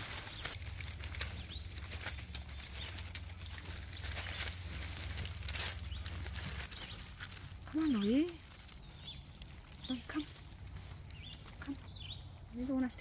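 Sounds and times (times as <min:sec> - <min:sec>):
dry leaf litter crackling: 0:00.0 - 0:13.0
leaves rustling against camera: 0:00.0 - 0:13.0
steady low hum: 0:00.0 - 0:13.0.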